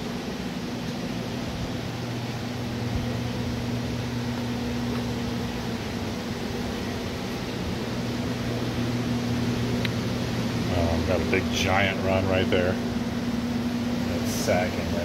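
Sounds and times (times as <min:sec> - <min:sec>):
machine hum with airy hiss: 0:00.0 - 0:15.0.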